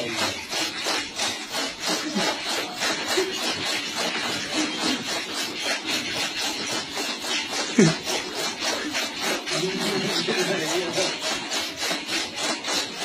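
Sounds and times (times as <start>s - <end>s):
chaff cutter blades chopping: 0.0s - 13.0s.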